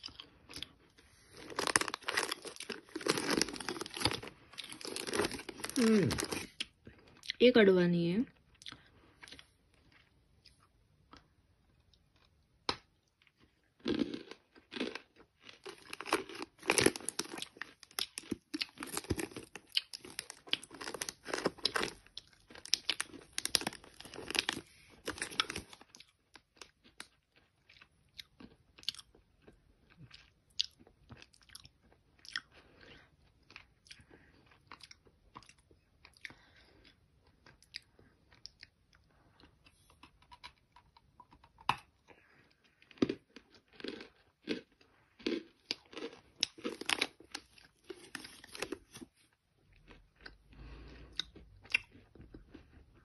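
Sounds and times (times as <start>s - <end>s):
chewing and crunching: 0.0s - 7.4s, 8.3s - 53.0s.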